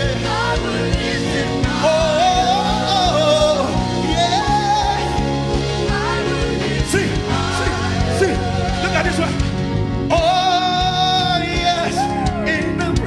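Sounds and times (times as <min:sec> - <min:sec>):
band groove with steady beat: 0:00.0 - 0:13.0
person singing gospel: 0:00.0 - 0:13.0.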